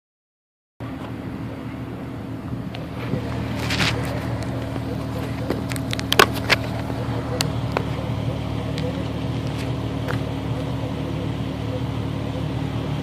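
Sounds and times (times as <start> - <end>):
car engine idling: 0.8 - 13.0.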